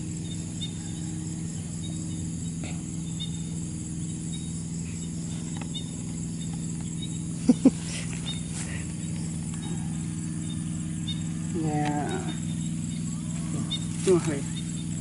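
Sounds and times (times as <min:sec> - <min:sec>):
crickets chirping: 0:00.0 - 0:15.0
low hum: 0:00.0 - 0:15.0.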